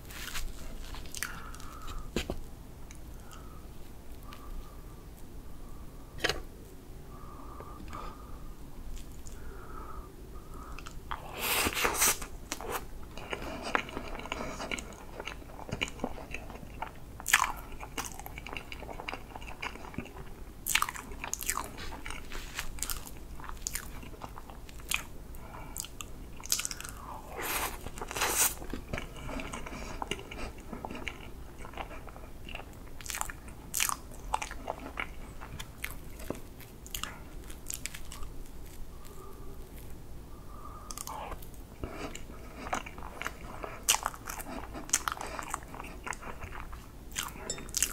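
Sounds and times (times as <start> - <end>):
biting and chewing cake: 0.0 - 3.5, 10.8 - 40.0, 40.9 - 47.9.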